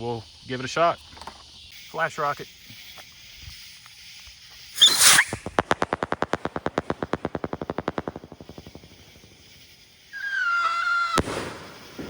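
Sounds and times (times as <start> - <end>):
firework hissing burst: 0.3 - 12.0
rapid strobe firework pops: 0.4 - 12.0.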